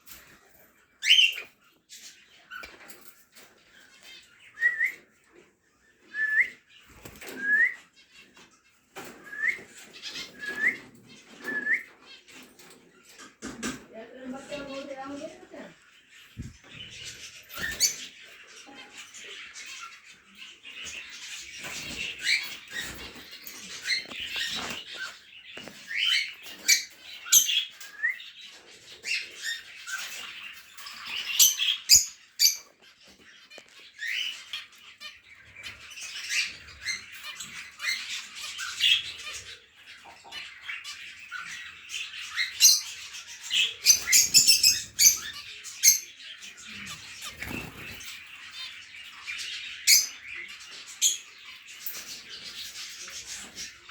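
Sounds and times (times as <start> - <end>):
caged birds chirping and squawking: 0.0 - 53.9.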